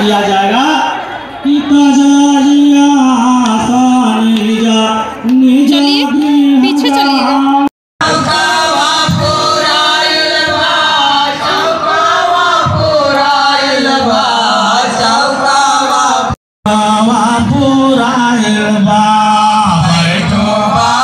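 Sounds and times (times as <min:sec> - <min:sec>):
voices chanting and singing: 0:01.4 - 0:21.0.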